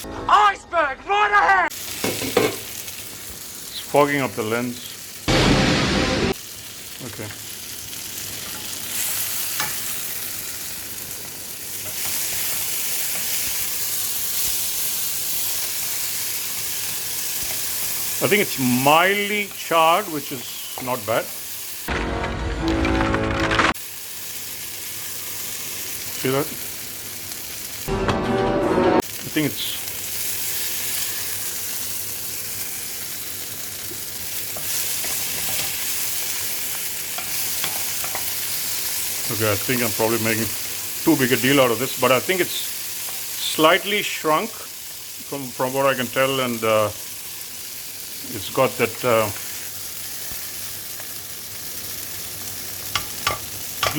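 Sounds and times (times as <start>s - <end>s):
vegetables sizzling in a pan: 1.7s - 5.7s, 6.3s - 21.9s, 23.8s - 27.9s, 29.0s - 53.9s.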